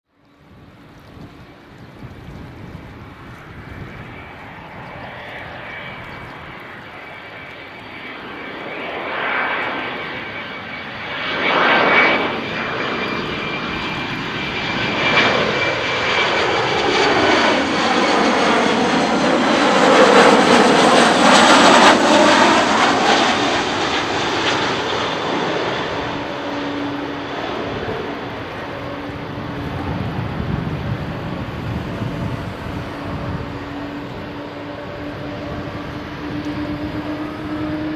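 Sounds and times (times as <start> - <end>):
jet airliner engines whining: 0.2 - 37.9.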